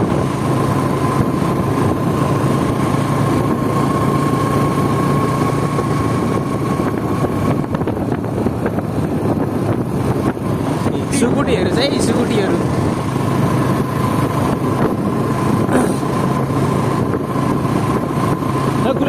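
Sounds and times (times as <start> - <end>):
motorbike engine running: 0.0 - 19.0
road and wind noise: 0.0 - 19.0
steady whine: 0.0 - 19.0.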